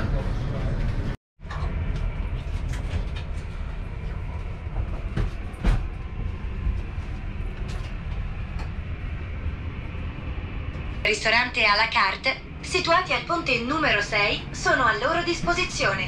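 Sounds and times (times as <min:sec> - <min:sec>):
deep ferry engine rumble: 0:00.0 - 0:16.0.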